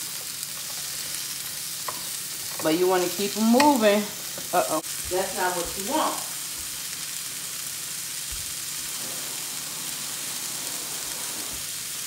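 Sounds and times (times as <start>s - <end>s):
onions sizzling on a griddle: 0.0s - 12.0s.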